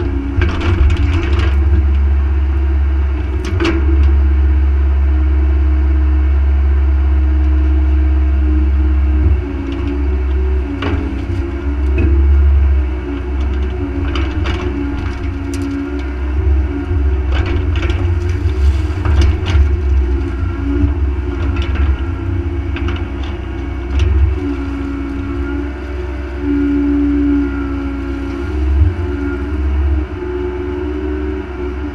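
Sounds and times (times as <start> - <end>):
excavator diesel engine: 0.0 - 31.9.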